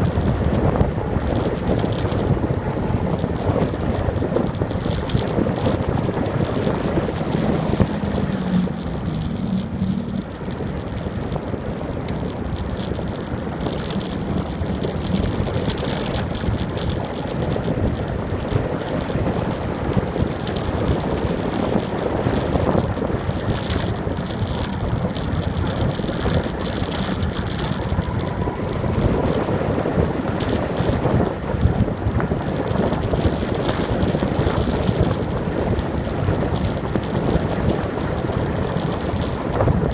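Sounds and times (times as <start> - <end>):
bicycle rattling: 0.0 - 39.9
tyres rumbling on asphalt: 0.0 - 39.9
wind buffeting microphone: 0.0 - 39.9.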